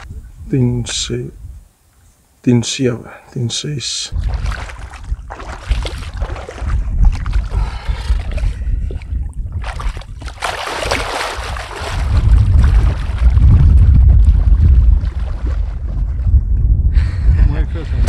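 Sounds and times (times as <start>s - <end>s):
wind buffeting microphone: 0.0s - 1.7s, 4.1s - 18.0s.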